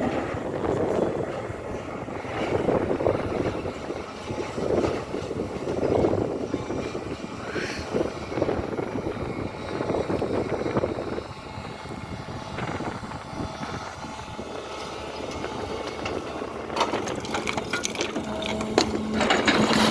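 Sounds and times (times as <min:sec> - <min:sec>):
excavator engine running: 0:00.0 - 0:19.9.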